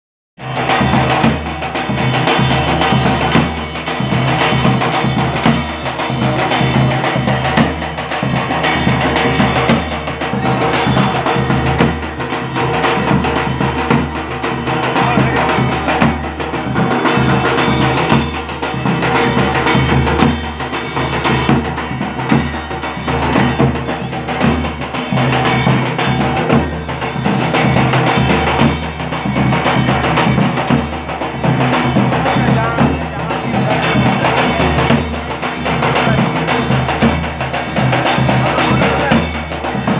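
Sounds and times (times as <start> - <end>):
music with steady drum beat: 0.4 - 39.9.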